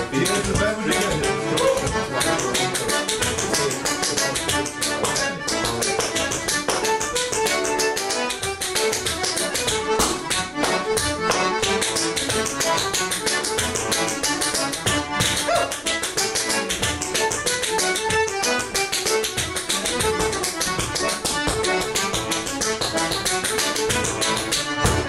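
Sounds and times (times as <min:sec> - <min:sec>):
button accordion dance tune: 0:00.0 - 0:25.0
dancer's shoes tapping on stone: 0:00.1 - 0:25.0.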